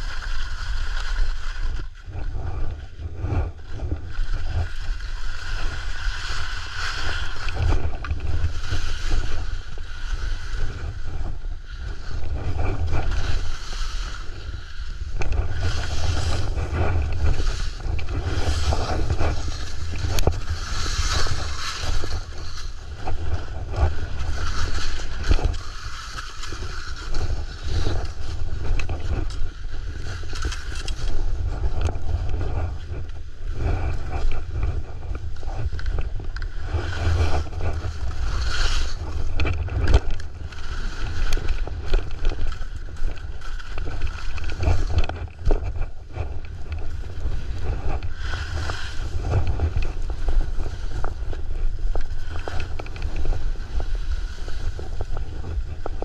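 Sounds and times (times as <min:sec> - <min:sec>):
skis scraping over snow: 0:00.0 - 0:56.0
wind buffeting microphone: 0:00.0 - 0:56.0.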